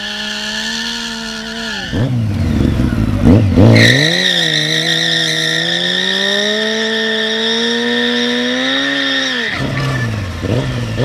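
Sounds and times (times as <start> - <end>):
motorcycle engine revving: 0.0 - 11.0
tyre squealing: 0.7 - 11.0.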